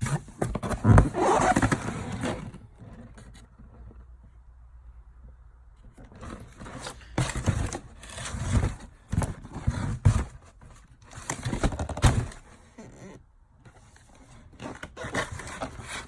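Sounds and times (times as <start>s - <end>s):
cardboard box rustling and scraping: 0.0s - 4.1s, 5.9s - 13.1s, 13.7s - 16.0s.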